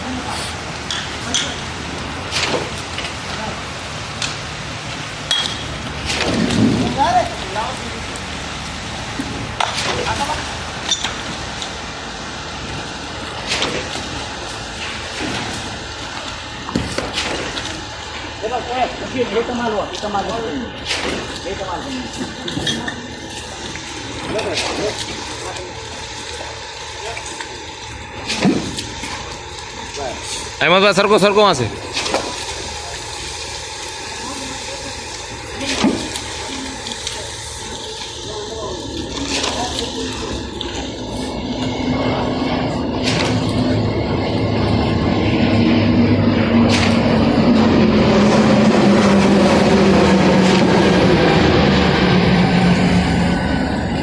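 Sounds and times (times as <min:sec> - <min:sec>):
concrete pump running: 0:00.0 - 0:54.0.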